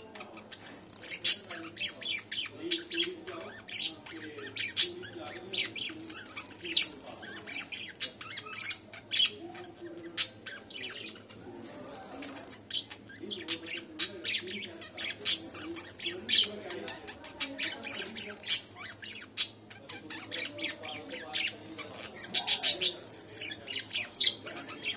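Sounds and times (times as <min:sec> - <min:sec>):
small birds chirping and squawking: 0:00.0 - 0:24.9
soft bird chatter: 0:00.0 - 0:24.9.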